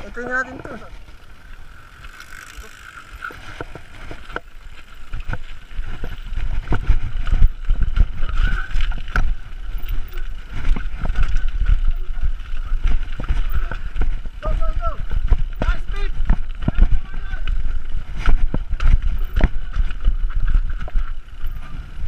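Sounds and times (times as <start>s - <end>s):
bike clattering over rough trail: 0.0s - 22.0s
wind rumble on microphone: 3.2s - 22.0s.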